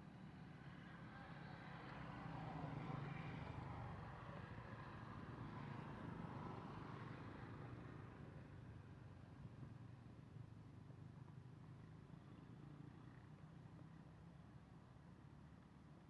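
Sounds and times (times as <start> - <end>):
faint outdoor background rumble: 0.0 - 16.0.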